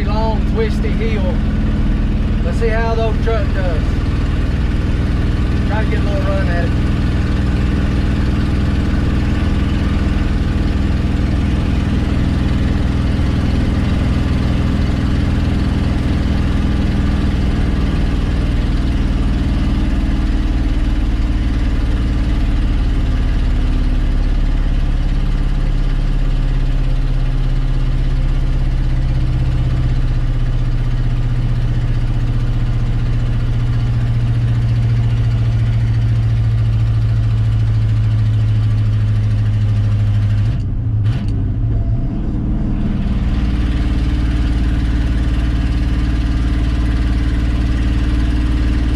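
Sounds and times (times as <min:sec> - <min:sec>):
pickup engine droning under load: 0:00.0 - 0:48.9.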